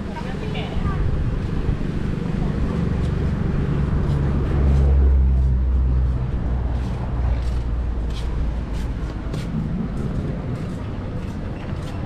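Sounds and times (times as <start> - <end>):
vehicle engine passing: 0.0 - 11.9.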